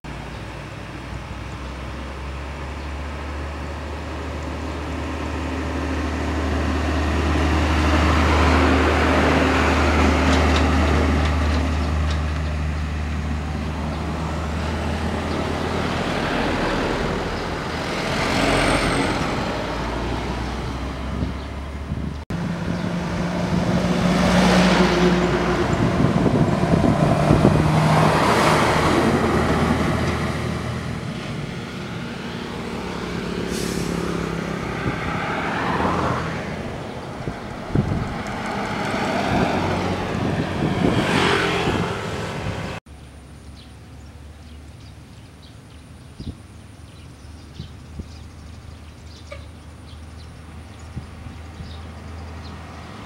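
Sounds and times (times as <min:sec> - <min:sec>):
cars going by: 0:00.0 - 0:53.0
diesel trucks driving past: 0:00.0 - 0:53.0.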